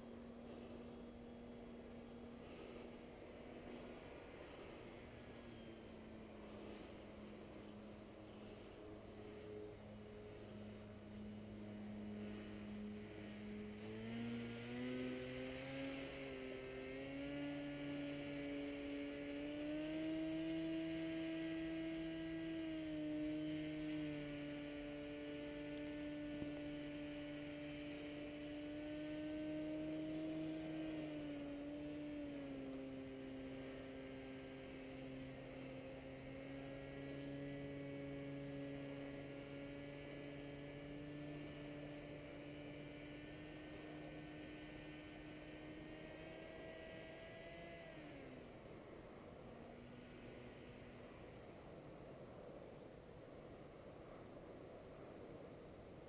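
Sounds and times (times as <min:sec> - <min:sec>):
distant paramotor engine droning: 0:00.0 - 0:56.0.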